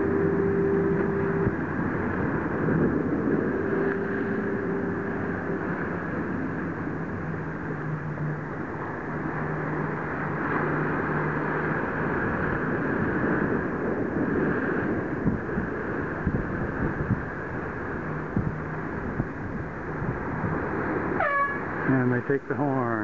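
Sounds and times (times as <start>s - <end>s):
boat engine hum: 0.0s - 23.0s
wind and water rushing: 0.0s - 23.0s.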